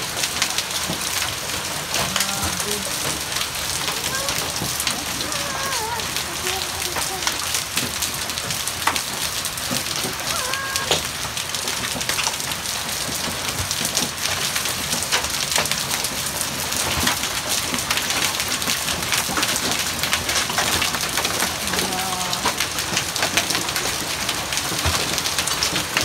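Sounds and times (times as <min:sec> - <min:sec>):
hail and rain pelting down: 0:00.0 - 0:26.0
hailstones ticking: 0:00.0 - 0:26.0.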